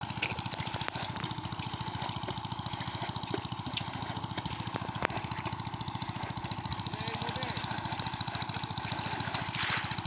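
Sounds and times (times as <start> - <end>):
water pump engine running: 0.0 - 10.0.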